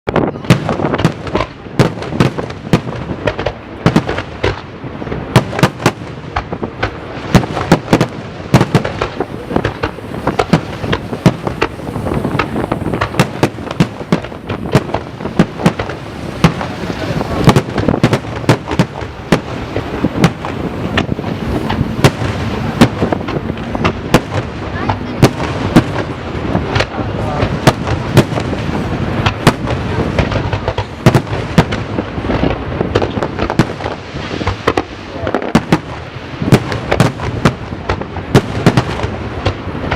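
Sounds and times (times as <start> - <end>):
rumble of explosions: 0.1 - 39.9
firework shells bursting: 0.5 - 39.9.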